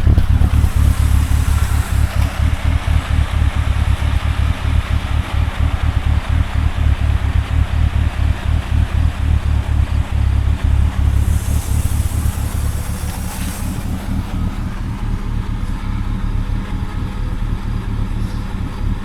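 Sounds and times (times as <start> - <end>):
car engine knocking and pinging: 0.0 - 19.0.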